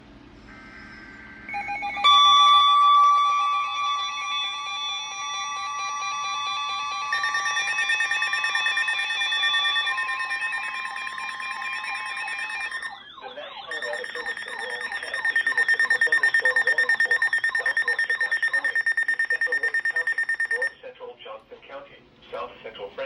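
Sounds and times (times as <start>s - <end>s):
electronic pulsing alarm tones: 1.6s - 13.1s, 13.7s - 20.7s.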